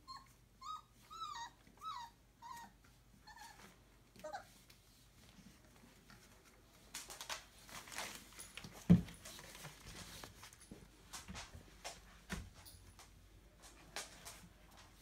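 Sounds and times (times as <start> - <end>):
puppies rustling and scratching: 0.1 - 15.0.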